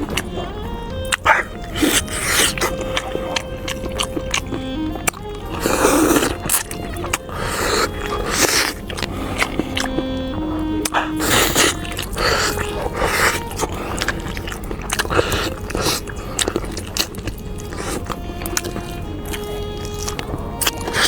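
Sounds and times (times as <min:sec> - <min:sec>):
close-miked biting and chewing: 0:00.0 - 0:21.0
soft background music: 0:00.0 - 0:21.0.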